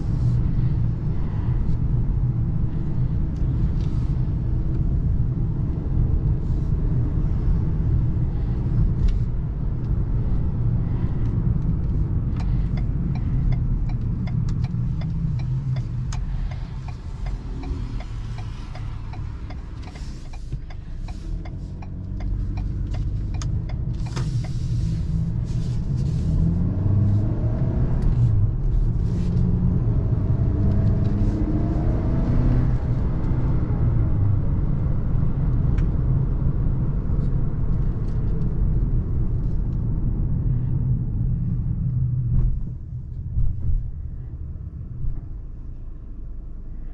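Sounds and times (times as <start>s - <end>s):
car engine while driving: 0.0s - 46.9s
road rumble: 0.0s - 46.9s.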